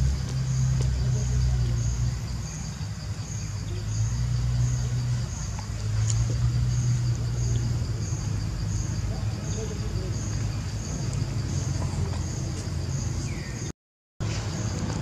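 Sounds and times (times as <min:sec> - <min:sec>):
insects calling in pulses: 0:00.0 - 0:15.0.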